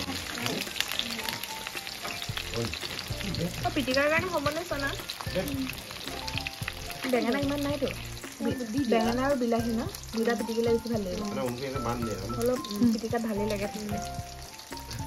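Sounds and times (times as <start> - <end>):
onions sizzling in a wok: 0.0 - 15.0.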